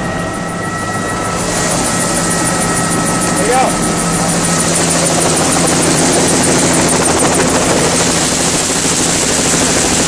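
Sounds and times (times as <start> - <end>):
helicopter rotor and turbine: 0.0 - 10.0
thin high whine: 0.0 - 10.0.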